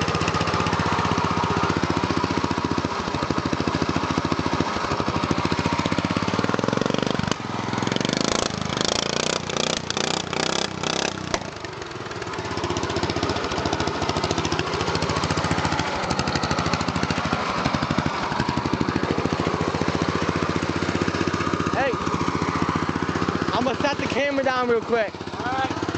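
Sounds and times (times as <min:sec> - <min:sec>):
lawn mower engine running: 0:00.0 - 0:25.9.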